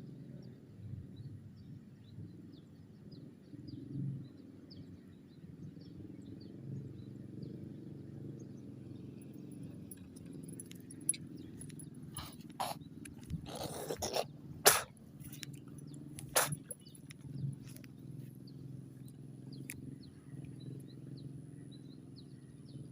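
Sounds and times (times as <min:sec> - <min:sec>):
small birds chirping: 0:00.1 - 0:22.9.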